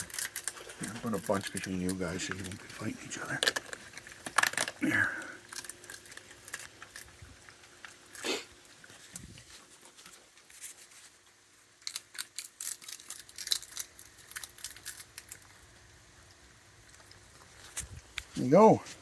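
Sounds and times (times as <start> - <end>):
raccoons crunching peanuts: 0.0 - 19.0.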